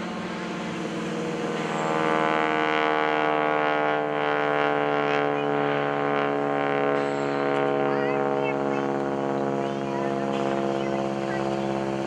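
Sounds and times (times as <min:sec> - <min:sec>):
propeller plane engine droning overhead: 0:00.0 - 0:12.0.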